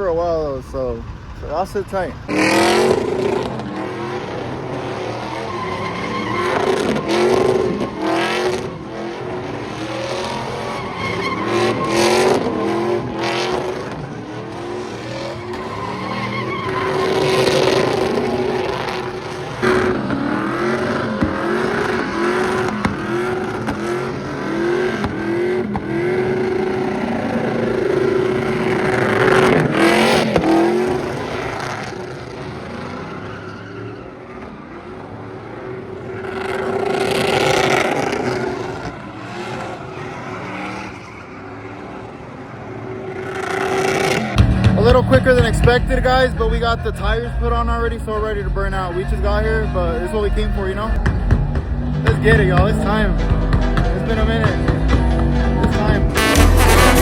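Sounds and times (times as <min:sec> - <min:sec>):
truck engines revving: 0:00.0 - 0:57.0
tyres skidding: 0:00.0 - 0:57.0.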